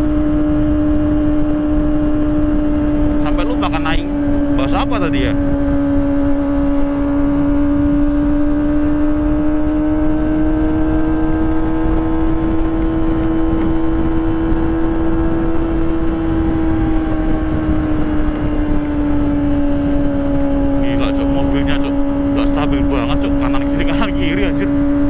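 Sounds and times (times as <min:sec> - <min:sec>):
motorcycle engine high-revving: 0:00.0 - 0:25.0
wind rush: 0:00.0 - 0:25.0.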